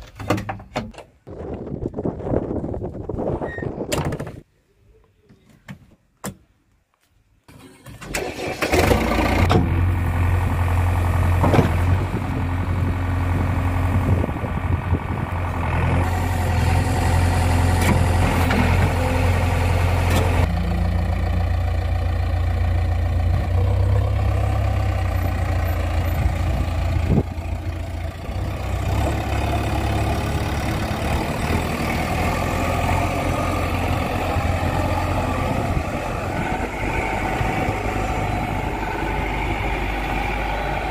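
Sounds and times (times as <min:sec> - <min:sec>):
diesel engine cranking and idling: 0:07.4 - 0:40.9.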